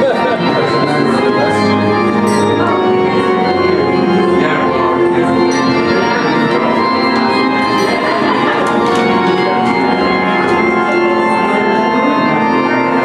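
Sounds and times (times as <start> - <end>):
organ playing sustained chords: 0.0 - 13.0.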